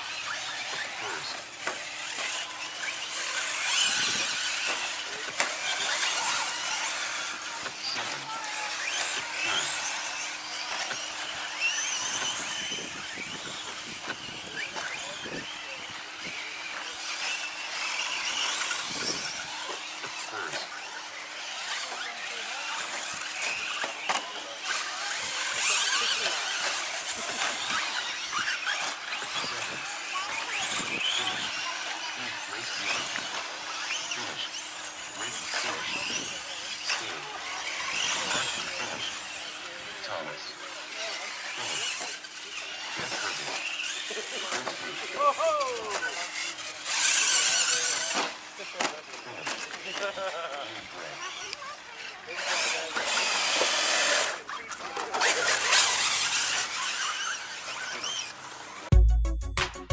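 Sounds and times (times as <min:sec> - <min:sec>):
electric motors whining: 0:00.0 - 0:58.9.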